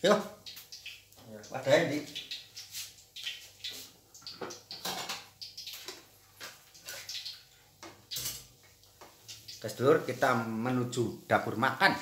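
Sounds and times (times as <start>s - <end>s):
hot oil crackling in a wok: 0.0s - 12.0s.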